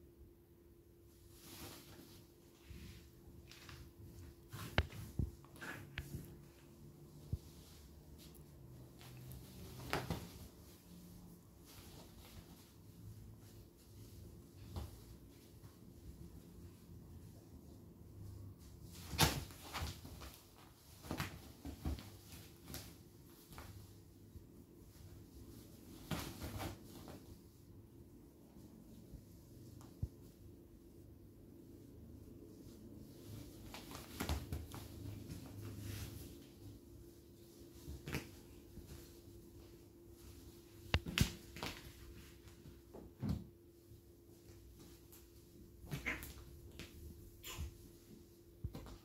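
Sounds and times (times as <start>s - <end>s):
cats scuffling on bed cover: 1.1s - 31.0s, 31.6s - 49.0s.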